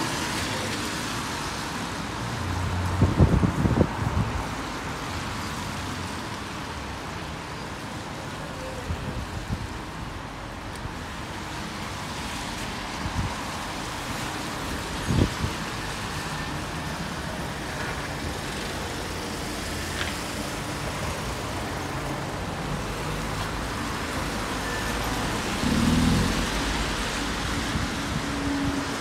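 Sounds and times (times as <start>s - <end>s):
cars driving on wet road: 0.0s - 29.0s.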